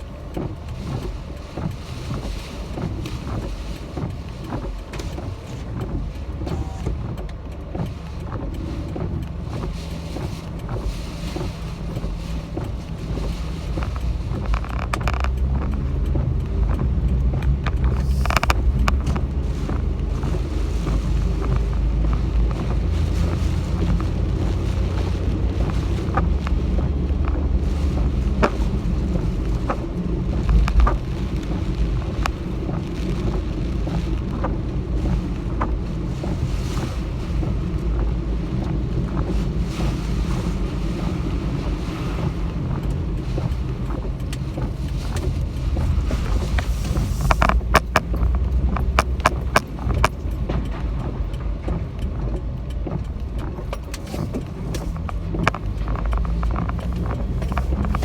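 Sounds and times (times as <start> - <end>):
sharp clicks and knocks: 0.0 - 35.8, 42.5 - 58.0
road and wind rumble: 0.0 - 58.0.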